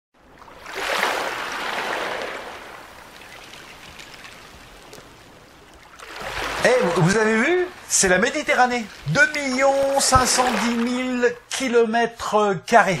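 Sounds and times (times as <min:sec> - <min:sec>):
rushing water hiss: 0:00.5 - 0:11.2.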